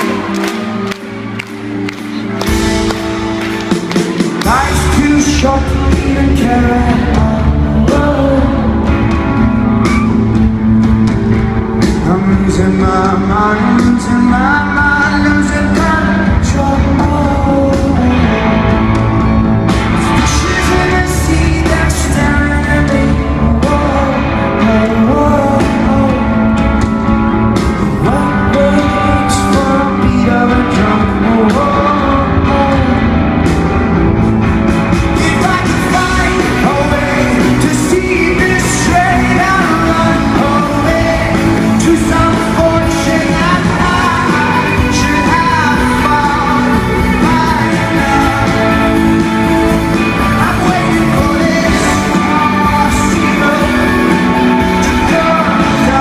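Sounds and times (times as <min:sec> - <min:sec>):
lead singer: 0:00.0 - 0:56.0
rock band playing live: 0:00.0 - 0:56.0.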